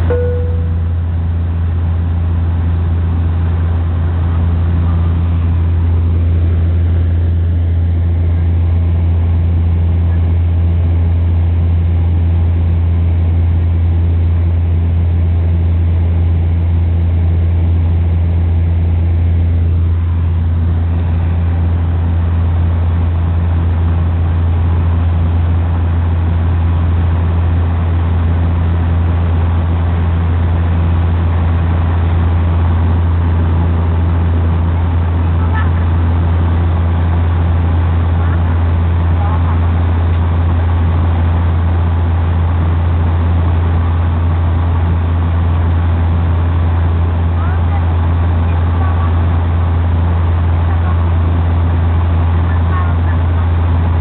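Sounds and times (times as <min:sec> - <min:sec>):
higher engine hum: 0:00.0 - 0:54.0
turboprop engine drone in cabin: 0:00.0 - 0:54.0.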